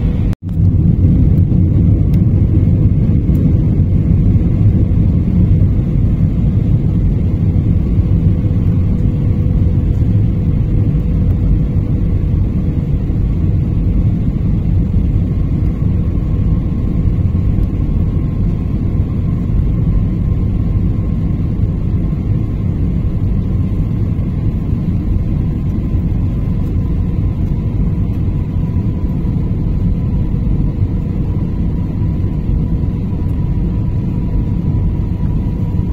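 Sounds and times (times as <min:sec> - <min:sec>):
airliner cabin engine rumble: 0:00.0 - 0:35.9.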